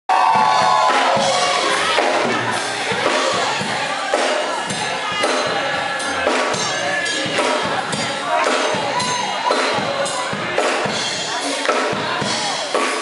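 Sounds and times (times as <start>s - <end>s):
drum kit beat: 0.1s - 13.0s
people singing: 0.3s - 13.0s.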